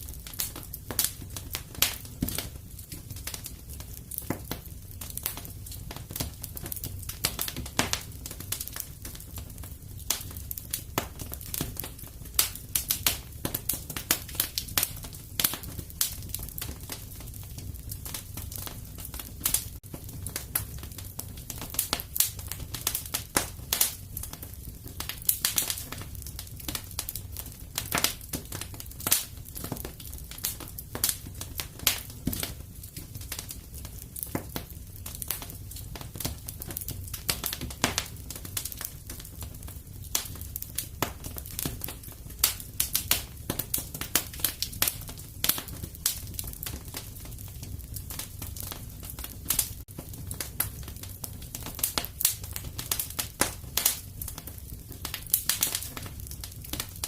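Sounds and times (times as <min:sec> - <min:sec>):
low rumble of burning: 0:00.0 - 0:57.0
wood fire crackling and popping: 0:00.0 - 0:57.0.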